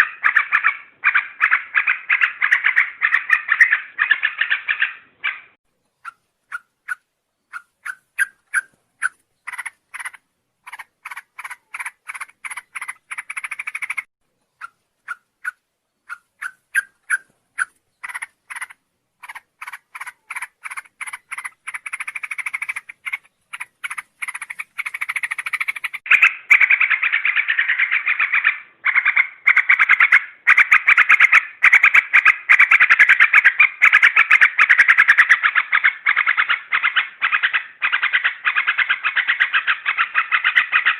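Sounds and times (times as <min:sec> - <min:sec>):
bird chattering calls: 0:00.0 - 0:40.9.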